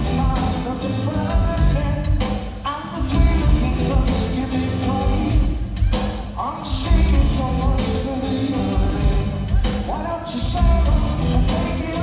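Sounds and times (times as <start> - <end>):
live rock band: 0.0 - 12.0
man singing: 0.0 - 12.0.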